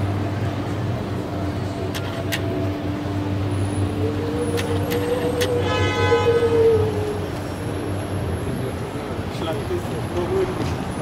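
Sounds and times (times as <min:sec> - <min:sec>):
vehicle low hum: 0:00.0 - 0:11.0.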